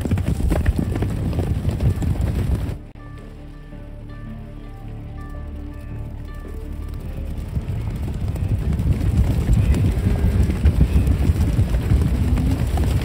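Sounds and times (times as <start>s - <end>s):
herd hooves drumming on ground: 0.0s - 3.3s, 4.5s - 13.0s.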